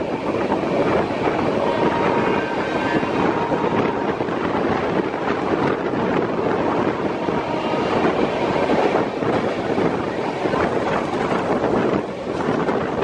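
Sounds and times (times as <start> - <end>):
passenger train running at speed: 0.0 - 13.0
wind on microphone: 0.0 - 13.0.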